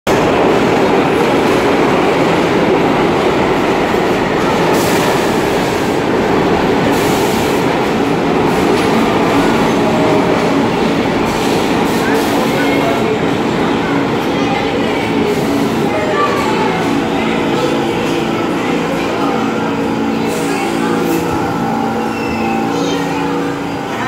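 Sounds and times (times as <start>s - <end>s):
subway train wheels rumbling on rails: 0.0s - 24.0s.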